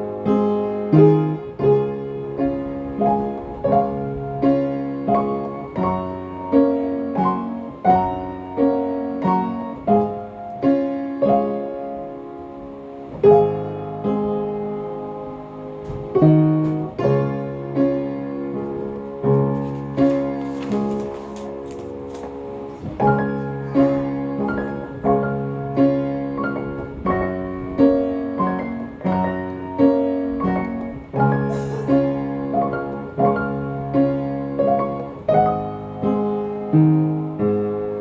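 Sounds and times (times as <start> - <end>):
solo piano melody: 0.0 - 38.0.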